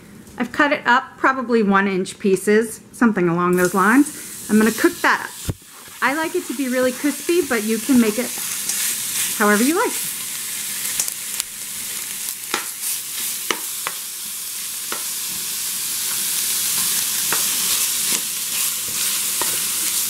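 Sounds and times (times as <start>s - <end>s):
bacon sizzling in skillet: 3.6s - 20.0s.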